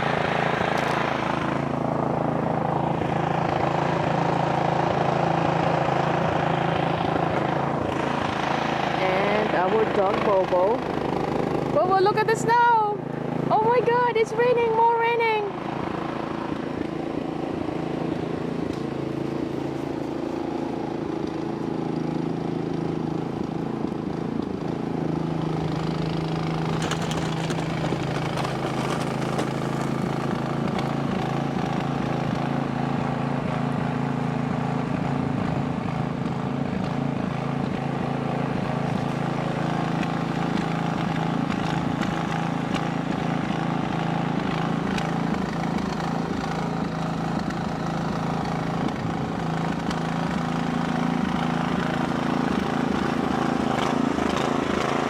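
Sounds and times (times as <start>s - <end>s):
snowblower engine running: 0.0s - 55.0s.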